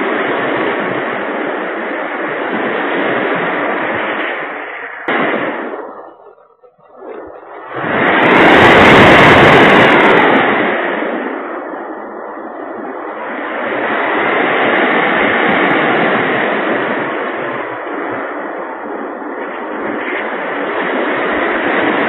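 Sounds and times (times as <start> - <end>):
wind roaring over camera: 0.0 - 22.0.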